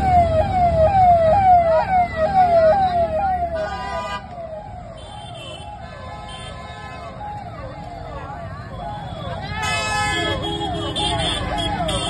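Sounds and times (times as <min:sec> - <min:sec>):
warbling vehicle siren: 0:00.0 - 0:12.0.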